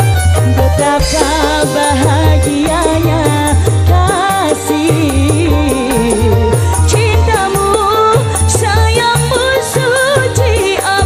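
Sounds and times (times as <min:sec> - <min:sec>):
pulsing bass line: 0:00.0 - 0:09.1
ornamented lead melody: 0:00.0 - 0:11.0.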